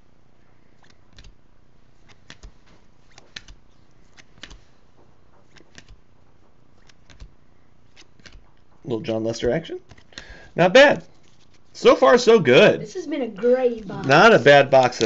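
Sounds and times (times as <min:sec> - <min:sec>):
cards clicking and scraping: 0:00.7 - 0:11.8, 0:13.8 - 0:15.0.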